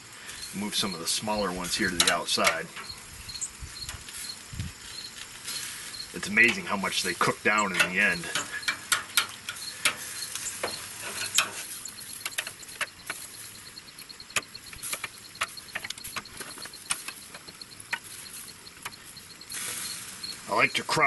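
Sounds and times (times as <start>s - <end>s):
meat sizzling on a grate: 0.0s - 21.0s.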